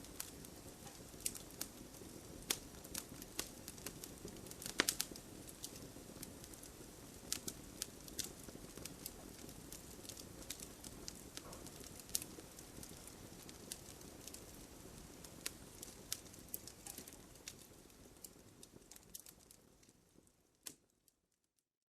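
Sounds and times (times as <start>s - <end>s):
wood fire crackling: 0.0s - 21.4s.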